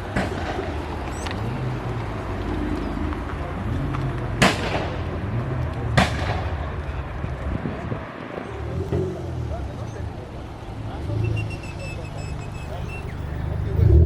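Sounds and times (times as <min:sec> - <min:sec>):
car engine revving: 0:00.0 - 0:14.0
exhaust bangs: 0:00.0 - 0:14.0.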